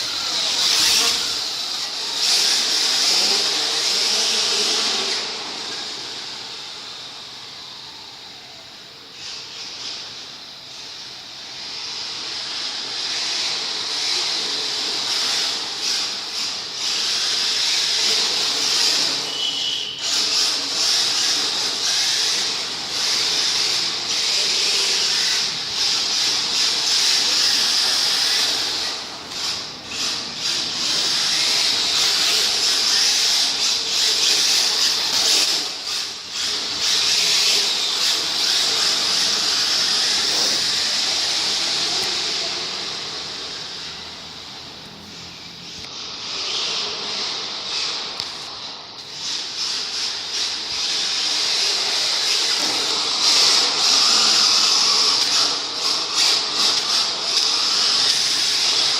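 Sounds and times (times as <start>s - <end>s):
model car high-pitched hiss: 0.0s - 58.9s.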